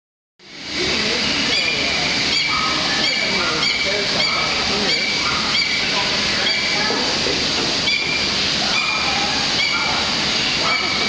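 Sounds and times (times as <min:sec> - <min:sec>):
steady rushing hiss: 0:00.4 - 0:11.0
murmur of many voices: 0:00.5 - 0:11.0.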